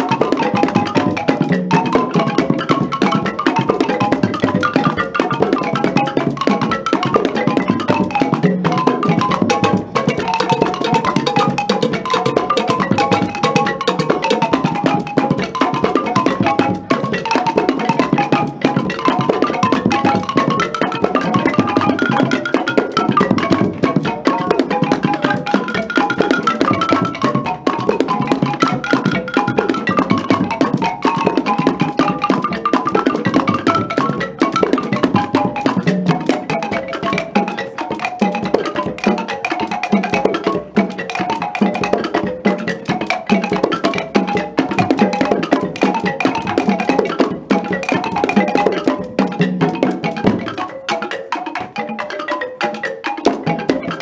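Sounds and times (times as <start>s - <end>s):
hand drums: 0.0s - 54.0s
wooden xylophones playing: 0.0s - 54.0s.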